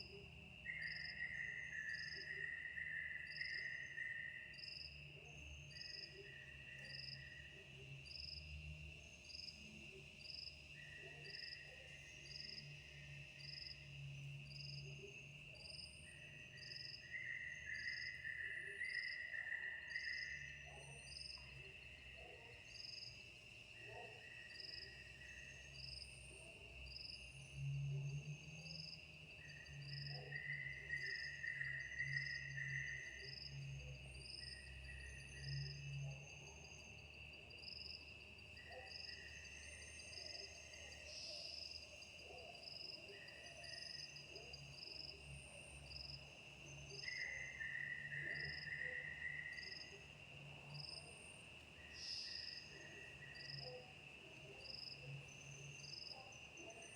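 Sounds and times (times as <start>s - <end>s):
cricket chirps: 0.0s - 56.9s
insects droning: 0.0s - 56.9s
low insect trill: 0.0s - 56.9s.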